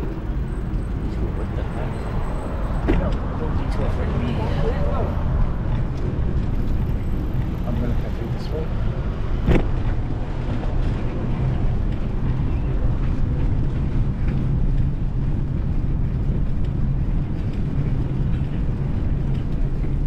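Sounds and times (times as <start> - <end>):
vehicle engine rumble: 0.0 - 20.0
wind and road noise: 0.0 - 20.0.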